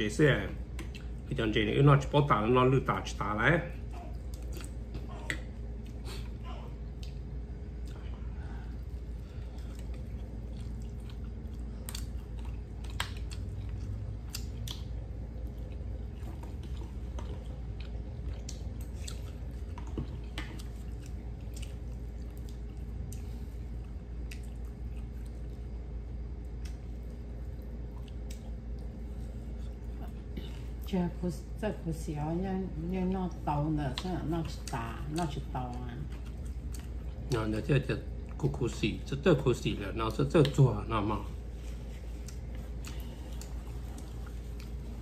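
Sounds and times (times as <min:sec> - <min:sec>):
steady low hum: 0:00.0 - 0:45.0
chewing crispy food: 0:04.1 - 0:31.0, 0:33.3 - 0:45.0.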